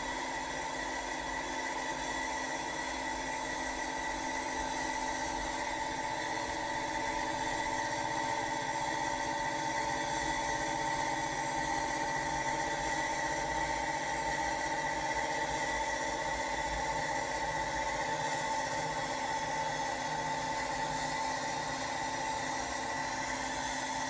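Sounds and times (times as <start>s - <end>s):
model locomotive hum and whine: 0.0s - 24.0s.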